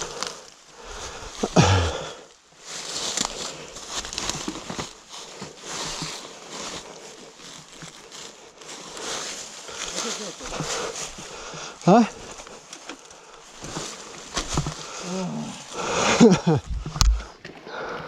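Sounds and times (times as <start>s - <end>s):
dry leaves and twigs crunching: 0.0s - 17.3s.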